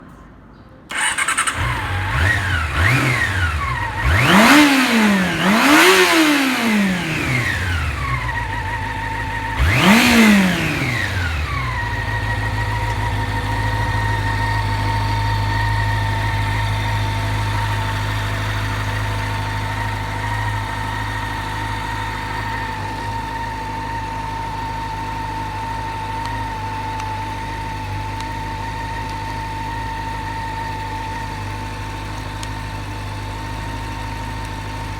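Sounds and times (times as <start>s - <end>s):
motorcycle engine revving and idling: 0.9s - 34.9s.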